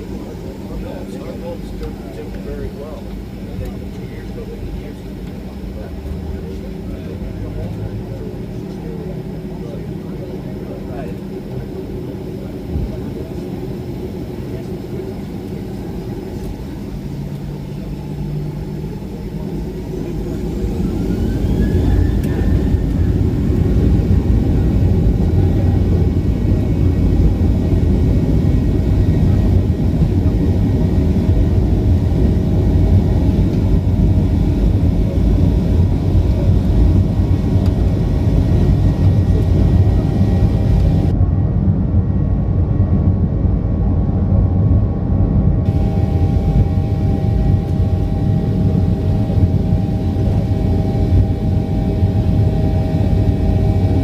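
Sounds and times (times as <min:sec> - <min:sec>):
jet engines spooling up: 0:00.0 - 0:42.2, 0:45.1 - 0:54.0.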